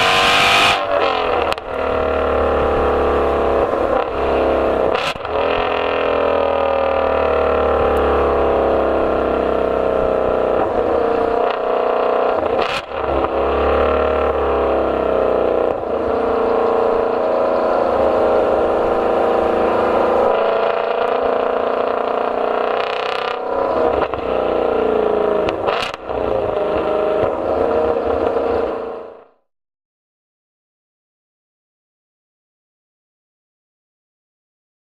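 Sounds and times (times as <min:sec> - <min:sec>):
car engine running: 0:00.0 - 0:29.2.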